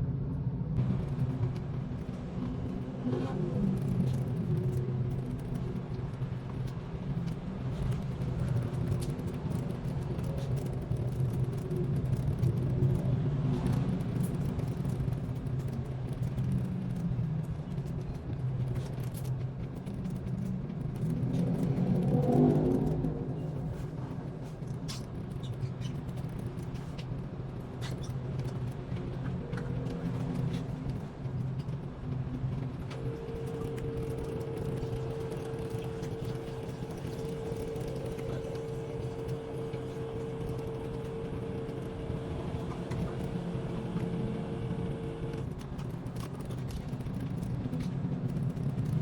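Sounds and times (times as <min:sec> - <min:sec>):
steady low rumble: 0:00.0 - 0:49.0.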